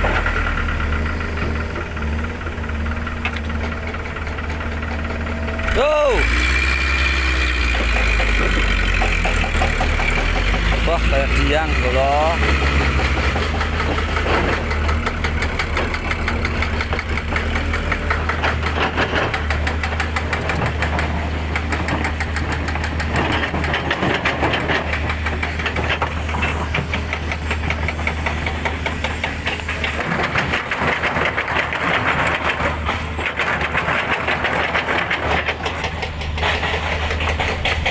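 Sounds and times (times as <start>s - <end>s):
excavator engine running: 0.0s - 37.9s
truck engine straining: 0.0s - 37.9s.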